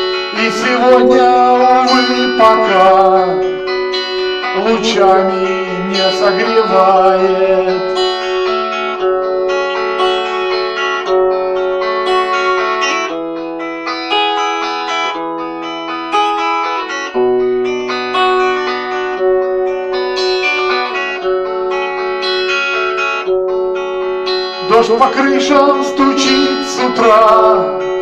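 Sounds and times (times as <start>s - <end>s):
guitar music: 0.0s - 28.0s.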